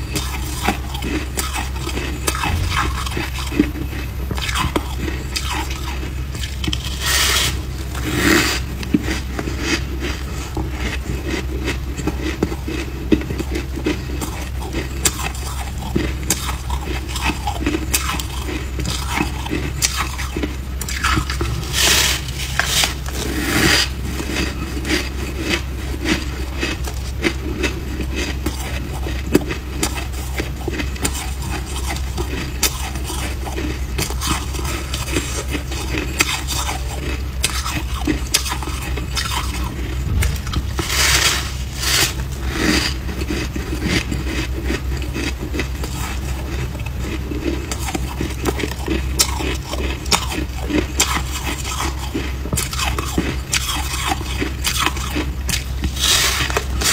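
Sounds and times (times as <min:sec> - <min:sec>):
crunching and chewing frost: 0:00.0 - 0:56.9
low steady hum: 0:00.0 - 0:56.9.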